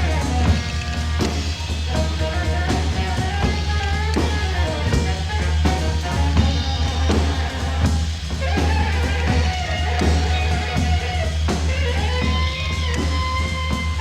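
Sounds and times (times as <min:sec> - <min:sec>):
drum kit: 0:00.0 - 0:14.0
electric guitar: 0:00.0 - 0:14.0.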